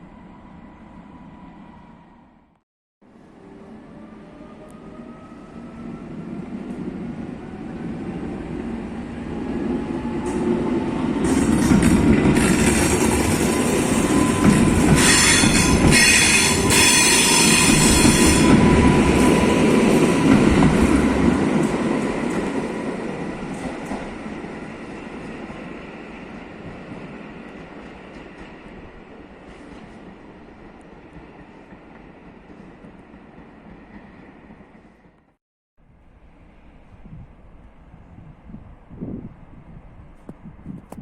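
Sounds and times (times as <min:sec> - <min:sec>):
train passing: 0:03.1 - 0:40.6.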